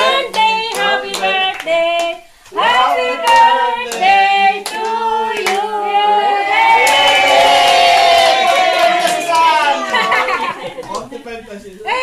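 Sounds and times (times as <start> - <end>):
people clapping in time: 0.0 - 5.6, 6.8 - 11.1
group singing: 0.0 - 10.7.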